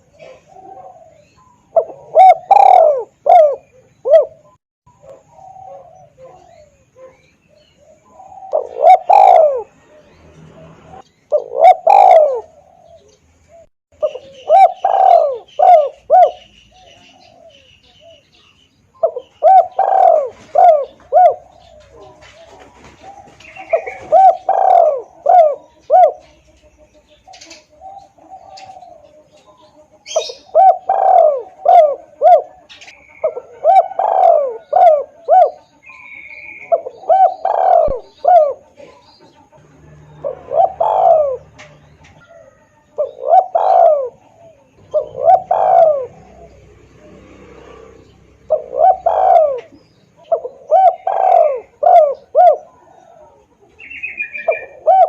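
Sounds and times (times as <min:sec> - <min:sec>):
dove cooing: 0:00.0 - 0:55.0
small birds chirping: 0:00.0 - 0:55.0.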